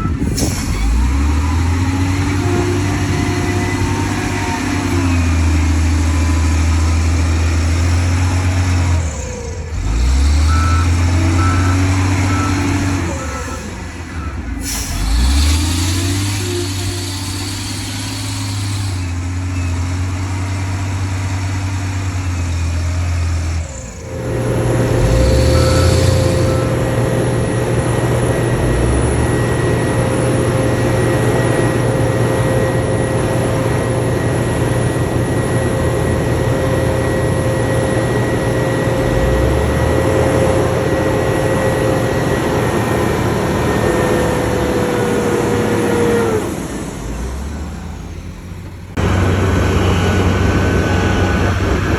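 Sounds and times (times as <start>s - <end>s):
diesel machinery running: 0.0s - 51.9s
engine whine: 0.0s - 51.9s.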